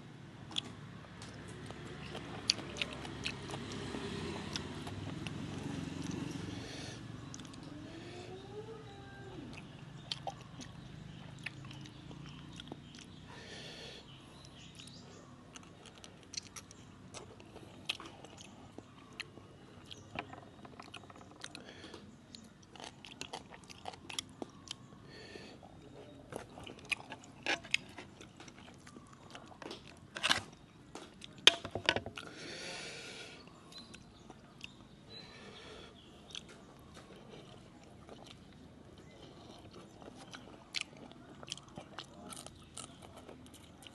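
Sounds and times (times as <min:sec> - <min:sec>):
person chewing and crunching: 0:00.5 - 0:07.7, 0:09.5 - 0:13.6, 0:14.4 - 0:25.0, 0:25.8 - 0:32.4, 0:36.0 - 0:43.9.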